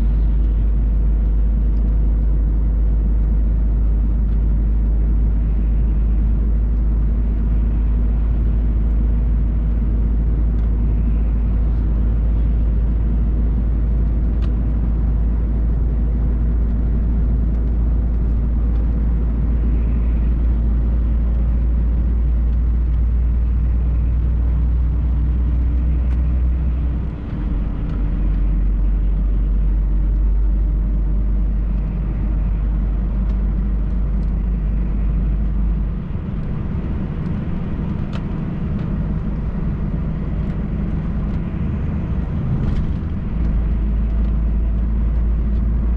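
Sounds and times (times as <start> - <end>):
road noise inside cab: 0.0 - 45.9
truck engine drone: 0.0 - 45.9.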